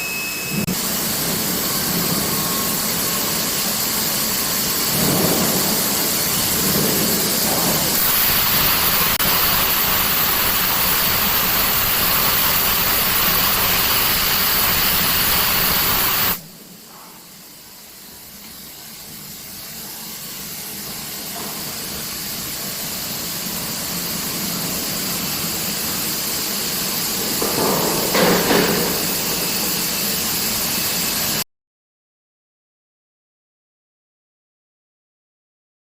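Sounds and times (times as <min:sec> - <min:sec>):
industrial machinery hiss and whine: 0:00.0 - 0:31.4.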